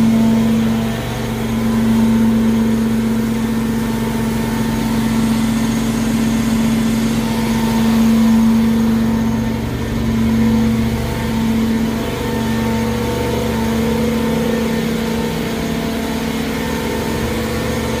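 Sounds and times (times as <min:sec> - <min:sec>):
engine and vacuum blower hum: 0:00.0 - 0:18.0.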